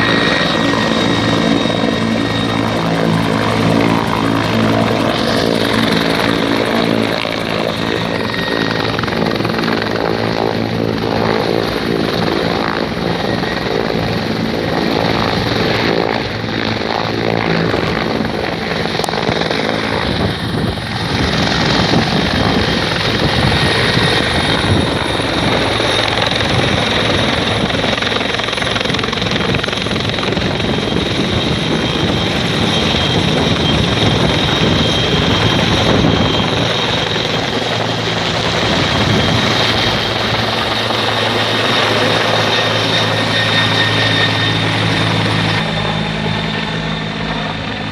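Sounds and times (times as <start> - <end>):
helicopter rotor and turbine: 0.0 - 47.9.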